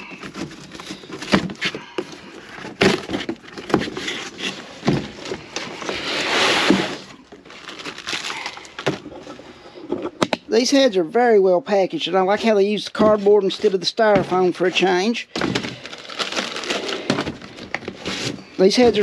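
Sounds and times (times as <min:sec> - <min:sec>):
cardboard scraping: 0:00.0 - 0:10.3, 0:12.0 - 0:19.0.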